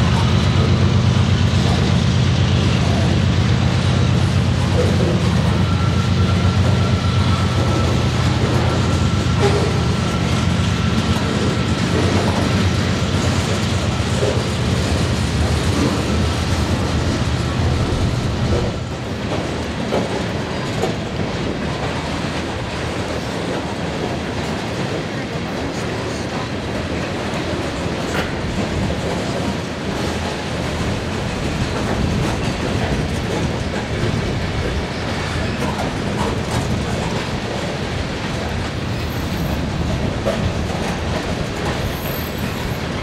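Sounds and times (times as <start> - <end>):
diesel locomotive engine drone: 0.0 - 43.0
freight cars rolling: 0.0 - 43.0.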